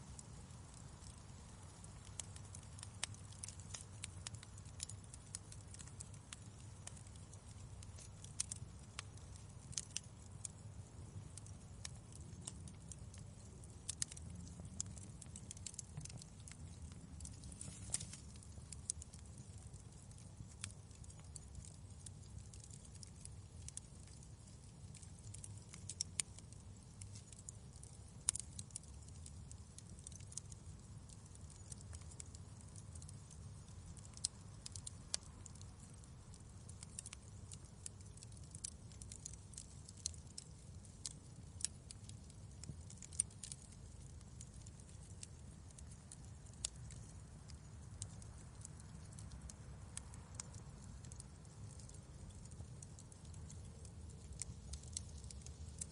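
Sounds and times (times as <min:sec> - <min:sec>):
fire crackling and popping: 0:00.0 - 0:55.9
low rumble of burning logs: 0:00.0 - 0:55.9.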